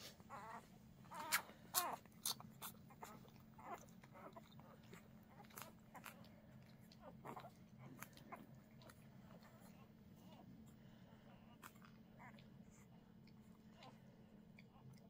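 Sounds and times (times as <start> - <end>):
puppies squeaking and whimpering: 0.0 - 14.0.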